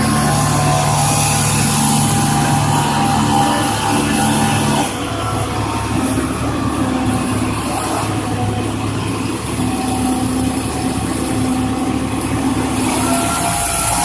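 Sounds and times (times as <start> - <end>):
heavy machinery engine running: 0.0 - 14.0
high steady tone: 0.0 - 14.0.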